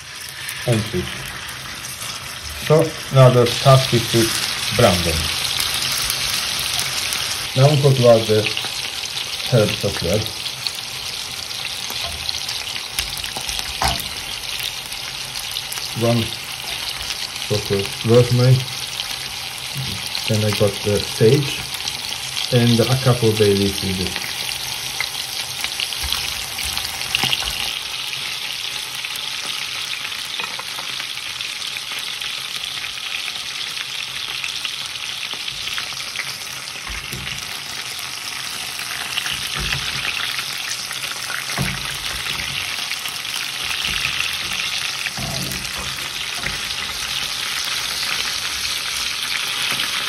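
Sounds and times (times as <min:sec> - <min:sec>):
meat sizzling in frying pan: 0:00.0 - 0:50.0.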